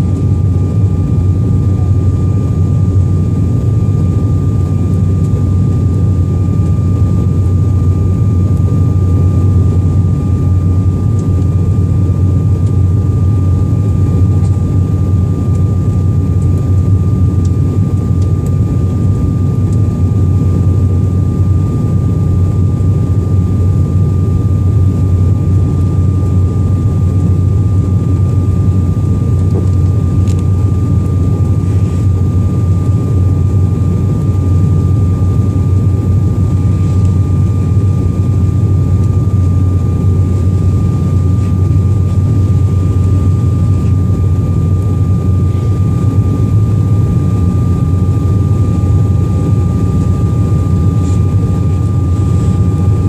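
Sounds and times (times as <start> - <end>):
jet engine drone in cabin: 0.0 - 53.0
thin constant whine: 0.0 - 53.0.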